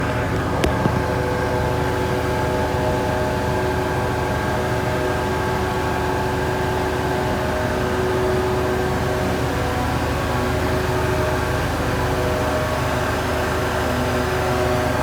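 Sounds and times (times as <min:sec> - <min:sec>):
steady mechanical drone: 0:00.0 - 0:15.0.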